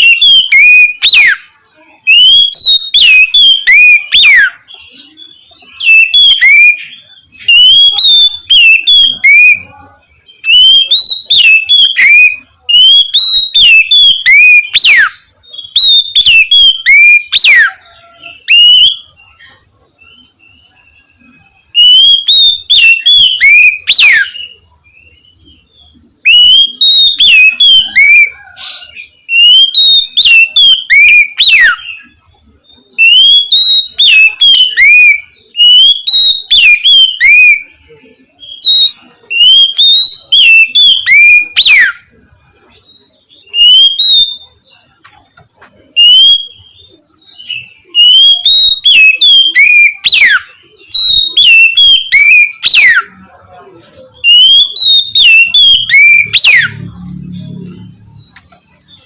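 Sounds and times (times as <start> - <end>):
bird singing whistled song: 0.0 - 45.0, 45.9 - 59.0.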